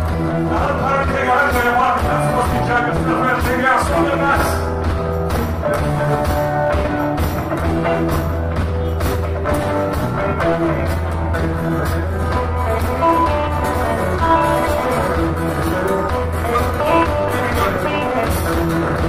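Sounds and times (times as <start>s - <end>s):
live band playing a reel: 0.0s - 19.0s.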